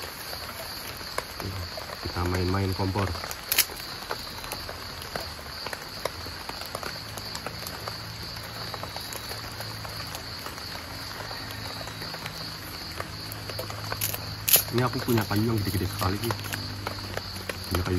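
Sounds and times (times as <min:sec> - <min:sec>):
high insect chirring: 0:00.0 - 0:05.8, 0:06.4 - 0:17.9
small ticks and pops: 0:00.0 - 0:17.9.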